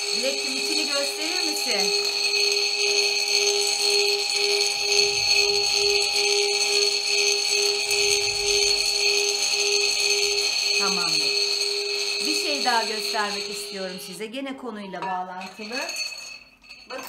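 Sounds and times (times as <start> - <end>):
singing bowl humming: 0.0 - 14.3, 15.0 - 17.0
crystal spheres vibrating in bowl: 0.0 - 17.0.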